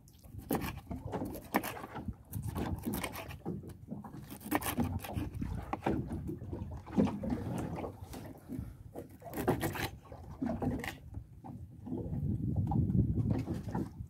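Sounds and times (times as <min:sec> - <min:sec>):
low rumble of wind and water: 0:00.0 - 0:14.0.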